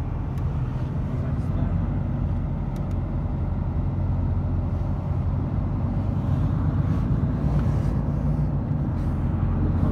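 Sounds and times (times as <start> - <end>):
diesel truck engine running: 0.0 - 9.9.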